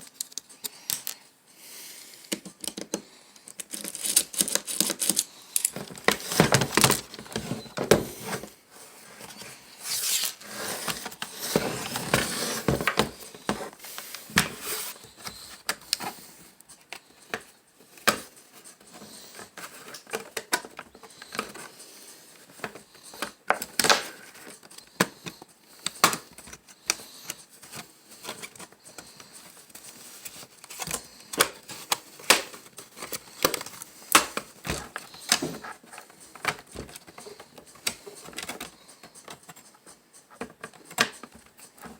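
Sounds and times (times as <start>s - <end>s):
small laptop parts clicking and rattling: 0.0s - 1.3s, 2.2s - 8.5s, 9.2s - 41.9s
rustling: 3.7s - 41.9s.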